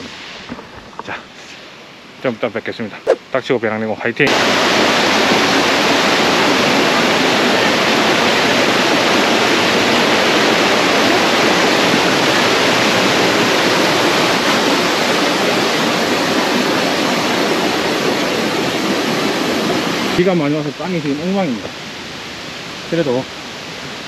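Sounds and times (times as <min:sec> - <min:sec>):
rushing water: 0:04.3 - 0:24.0.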